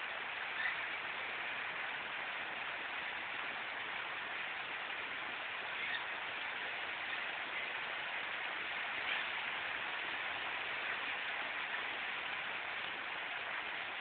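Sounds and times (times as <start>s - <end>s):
heavy rain on paving and leaves: 0.0s - 14.0s.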